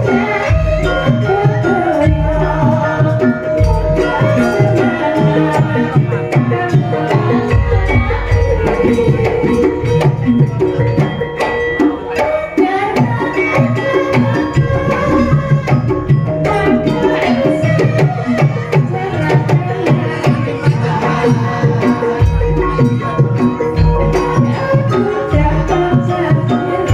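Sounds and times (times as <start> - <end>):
metallophones and gongs ringing: 0.0 - 26.9.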